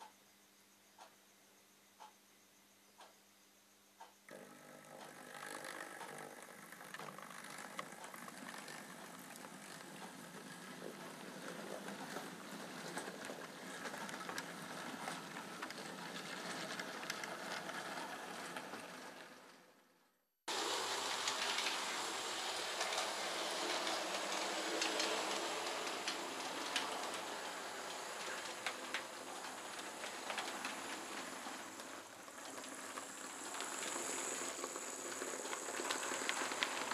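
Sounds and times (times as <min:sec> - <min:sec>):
model train wheels rattling: 0:04.3 - 0:19.8, 0:20.5 - 0:36.9.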